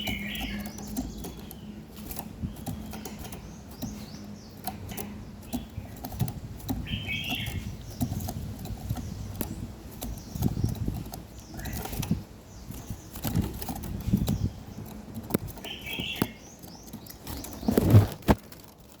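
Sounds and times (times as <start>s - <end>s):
bird wings fluttering: 0.0s - 19.0s
rustles and light knocks: 0.0s - 19.0s.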